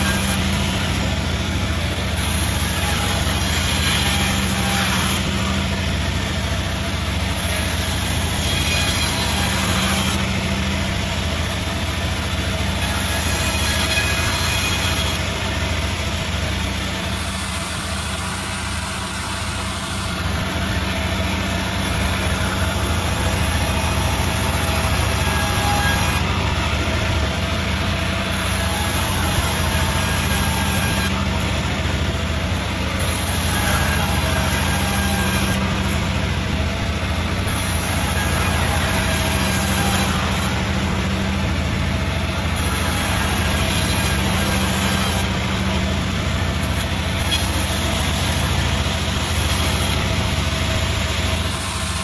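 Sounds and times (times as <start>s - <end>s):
sawmill machine humming: 0.0s - 52.0s.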